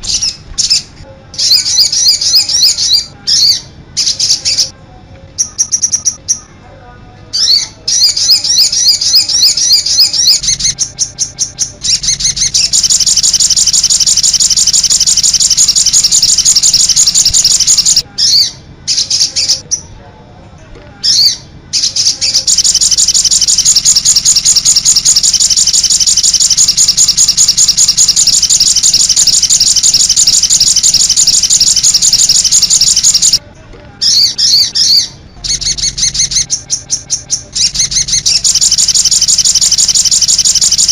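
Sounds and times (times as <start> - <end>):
songbird high-pitched trill: 1.4 - 4.7, 5.4 - 6.5, 7.4 - 19.9, 21.0 - 33.4, 34.1 - 40.9.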